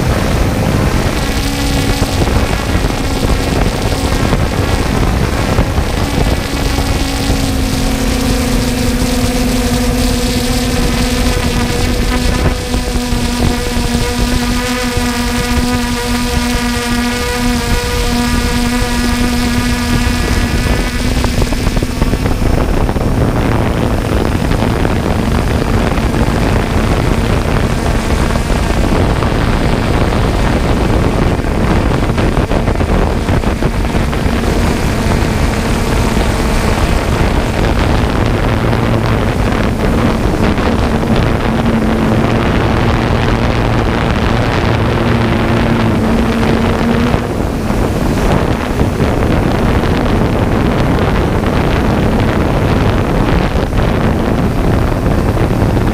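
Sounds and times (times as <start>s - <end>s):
harvest machinery rumble: 0.0s - 55.9s
machinery whine: 0.0s - 55.9s
wind on microphone: 0.0s - 55.9s.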